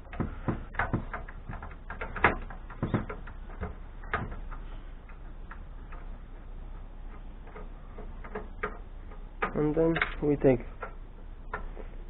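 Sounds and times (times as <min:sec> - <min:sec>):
metal clicks and knocks: 0:00.0 - 0:12.0.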